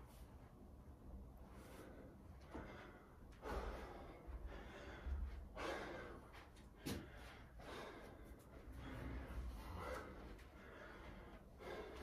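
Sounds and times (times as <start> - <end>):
person breathing hard: 1.2 - 12.0.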